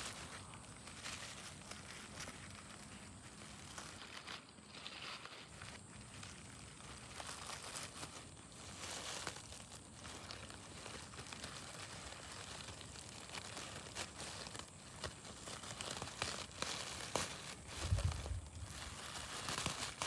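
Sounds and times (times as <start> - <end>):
handling noise crinkling and rustling: 0.0 - 20.0.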